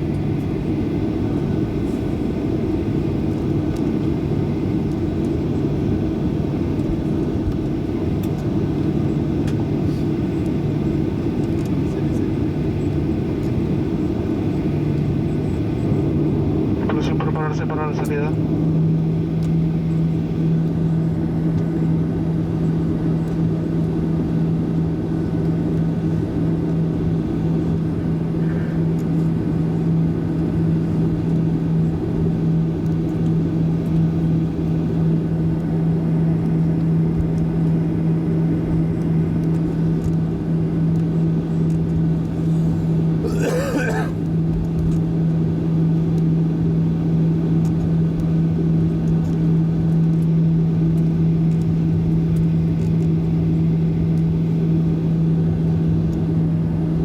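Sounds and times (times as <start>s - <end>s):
airliner cabin engine hum: 0.0s - 57.0s.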